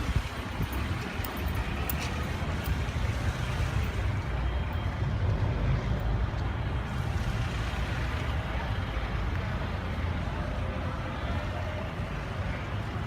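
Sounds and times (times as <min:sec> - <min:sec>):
car driving slowly: 0:00.0 - 0:13.0.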